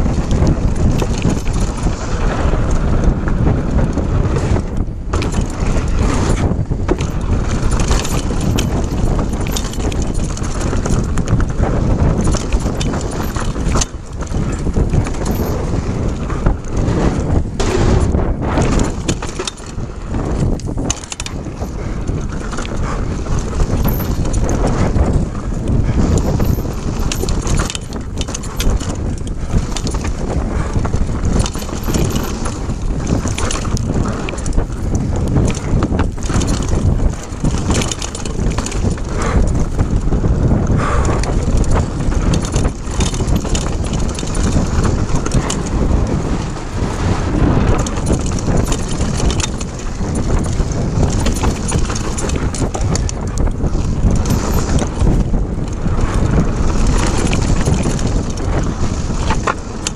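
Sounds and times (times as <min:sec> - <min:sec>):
bike rattling and knocking: 0:00.0 - 0:59.9
bike tyres rumbling on dirt: 0:00.0 - 0:59.9.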